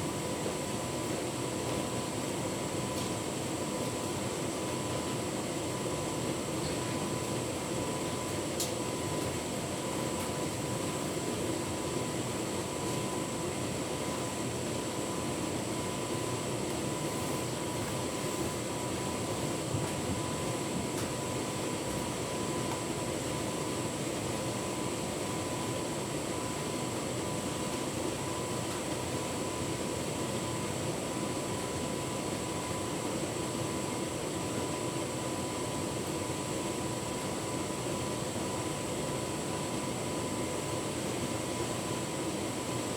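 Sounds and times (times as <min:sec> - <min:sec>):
tumble dryer drum whirring: 0:00.0 - 0:42.9.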